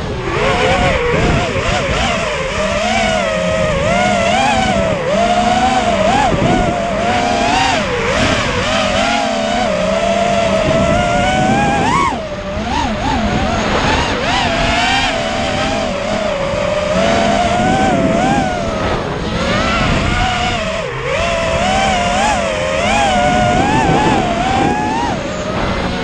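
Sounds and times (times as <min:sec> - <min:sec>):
quadcopter motors whining: 0:00.0 - 0:26.0.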